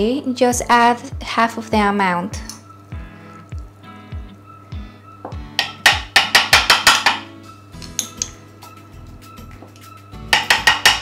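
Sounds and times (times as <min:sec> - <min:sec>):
background music with thumping beat: 0:00.0 - 0:11.0.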